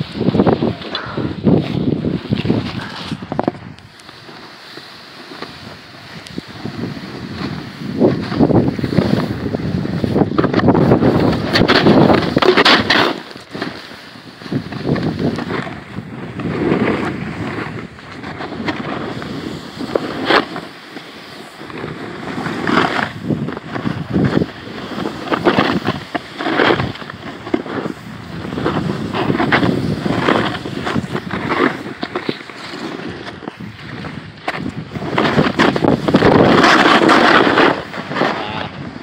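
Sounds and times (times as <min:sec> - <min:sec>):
snowboard scraping over snow: 0:00.0 - 0:39.0
wind on microphone: 0:00.0 - 0:39.0.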